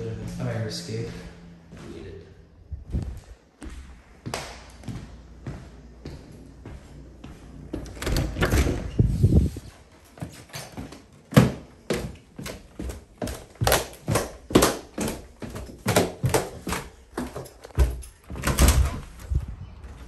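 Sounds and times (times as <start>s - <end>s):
footsteps going down stairs: 0.0s - 8.6s, 9.5s - 20.0s.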